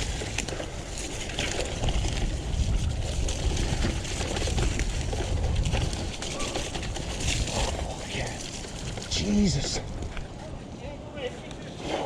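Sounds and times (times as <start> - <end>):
bike clicks and rattles: 0.0 - 10.6
wind and tyre rumble: 0.0 - 12.0.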